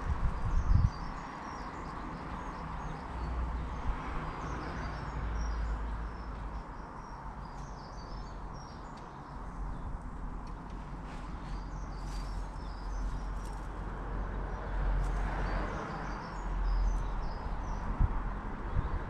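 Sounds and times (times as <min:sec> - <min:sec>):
songbirds chirping: 0:00.2 - 0:19.0.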